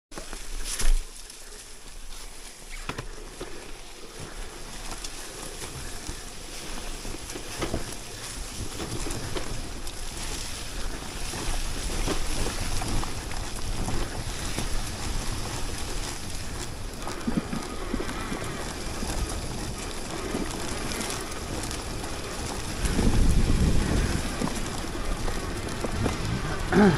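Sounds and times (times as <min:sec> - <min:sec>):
wind on microphone: 0:04.4 - 0:26.9.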